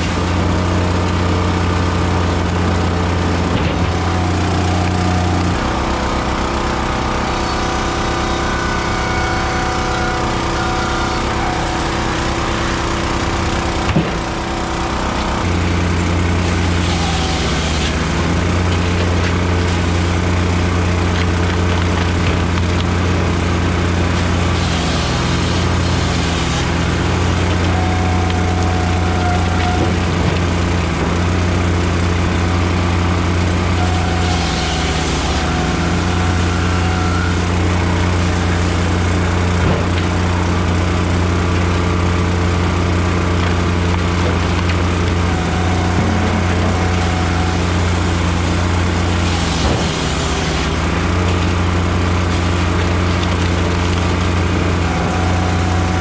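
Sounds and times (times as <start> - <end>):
engines running: 0.0 - 56.0.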